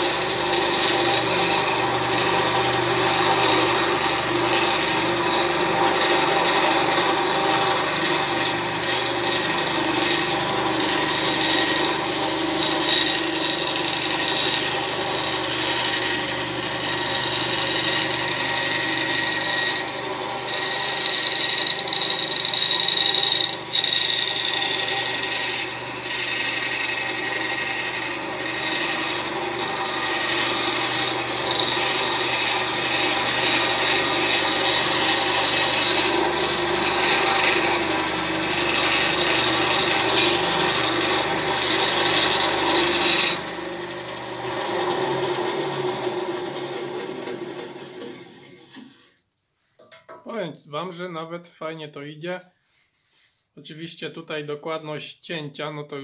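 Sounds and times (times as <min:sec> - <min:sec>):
band saw blade rasping through wood: 0:00.0 - 0:48.3
saw motor whine: 0:00.0 - 0:48.9.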